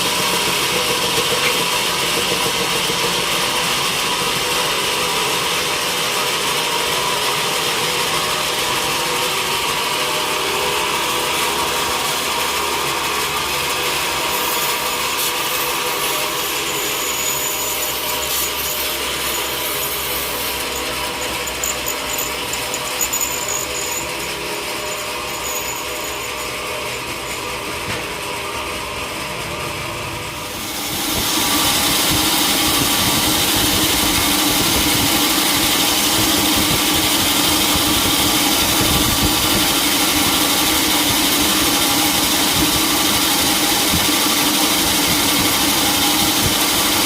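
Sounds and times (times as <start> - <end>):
saw cutting timber: 0.0 - 29.4, 30.2 - 47.0.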